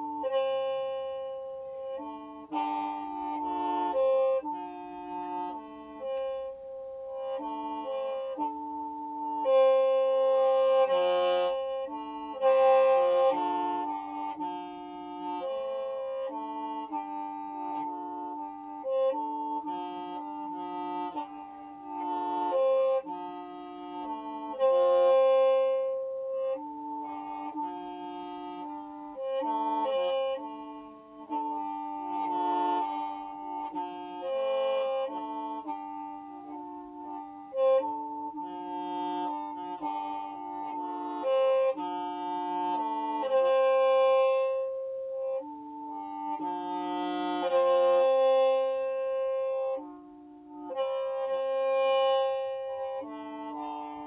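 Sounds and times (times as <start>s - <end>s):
bamboo mouth organ melody: 0.0s - 54.0s.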